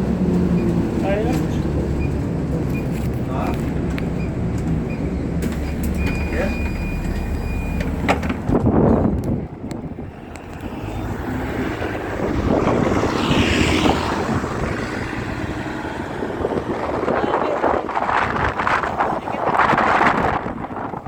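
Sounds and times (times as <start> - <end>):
road traffic noise: 0.0 - 21.0
strong wind buffeting microphone: 0.0 - 21.0.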